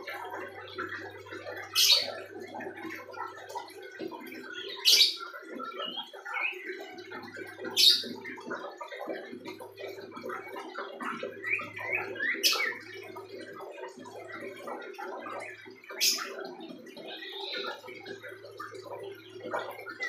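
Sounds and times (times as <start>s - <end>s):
soft bird twittering: 0.0s - 20.0s.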